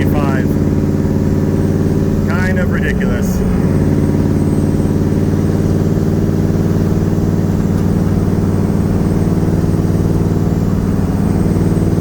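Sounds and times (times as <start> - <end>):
car engine droning at cruise: 0.0 - 12.0.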